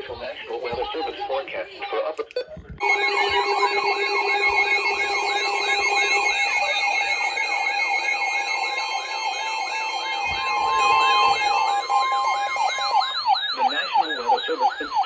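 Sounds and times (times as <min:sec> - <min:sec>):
lower steady tone: 0:02.8 - 0:14.9
two-note attention tone: 0:02.8 - 0:15.0.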